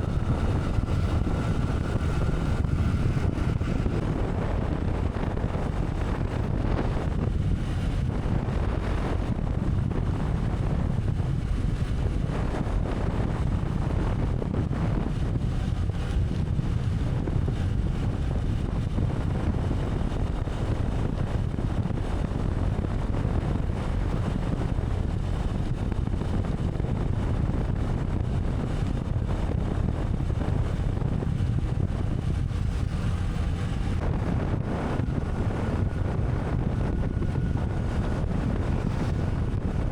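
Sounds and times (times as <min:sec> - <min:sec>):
vehicle road noise: 0:00.0 - 0:39.9
wind buffeting microphone: 0:00.0 - 0:39.9.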